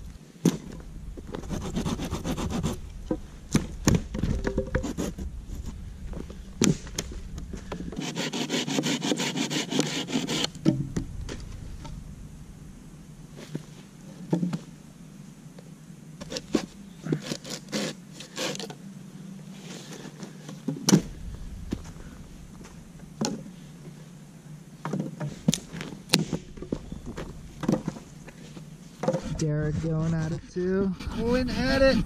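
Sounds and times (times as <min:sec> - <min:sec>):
rustling of dry leaves: 0:00.0 - 0:31.0.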